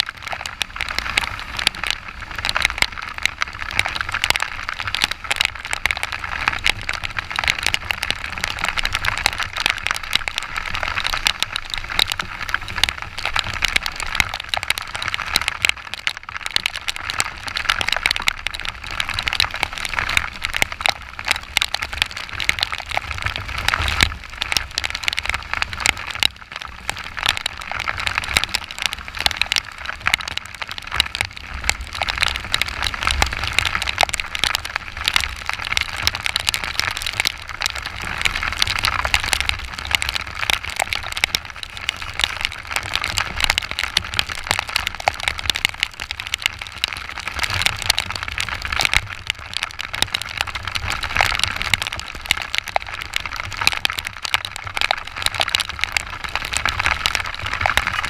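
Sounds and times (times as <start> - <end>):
heavy rain drumming on camera: 0.0 - 58.0.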